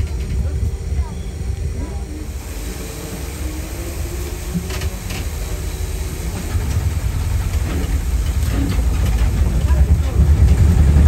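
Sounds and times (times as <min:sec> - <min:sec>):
tram low rumble: 0:00.0 - 0:11.0.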